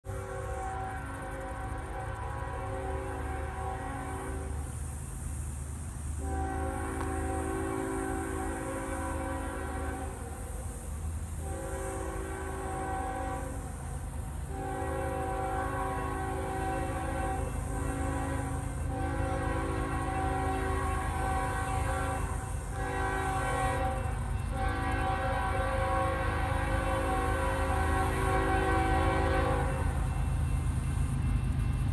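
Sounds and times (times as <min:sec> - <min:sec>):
locomotive air horn blasts: 0:00.0 - 0:04.8, 0:06.2 - 0:10.7, 0:11.4 - 0:30.2
low train rumble: 0:00.0 - 0:31.9.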